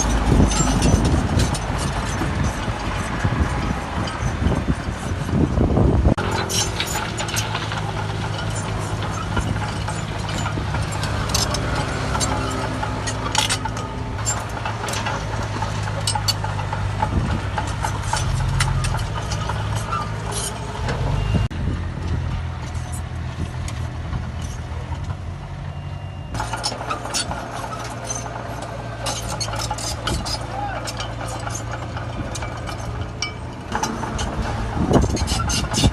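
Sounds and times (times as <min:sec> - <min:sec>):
sharp metal clanks and knocks: 0:00.0 - 0:05.5, 0:06.1 - 0:21.5, 0:22.1 - 0:35.9
diesel machinery running: 0:00.0 - 0:35.9.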